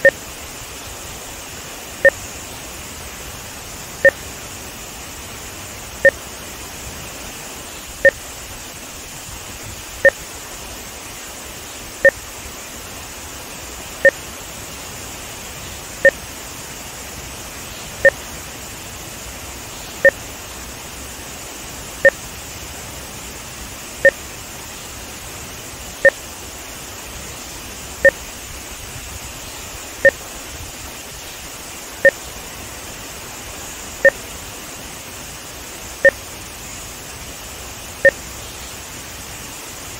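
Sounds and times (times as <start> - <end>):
rushing water from rapids: 0.0 - 39.9.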